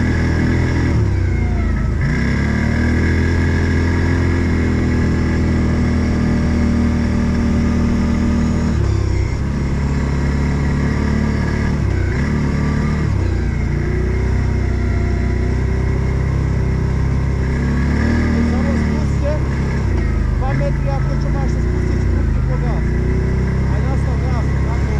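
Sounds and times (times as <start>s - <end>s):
off-road vehicle engine running: 0.0s - 24.9s.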